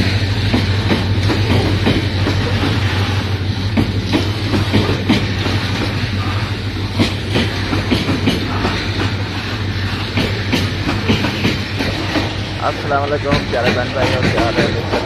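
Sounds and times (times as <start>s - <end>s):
freight train rumbling past: 0.0s - 15.0s
wheels clacking over rail joints: 0.0s - 15.0s.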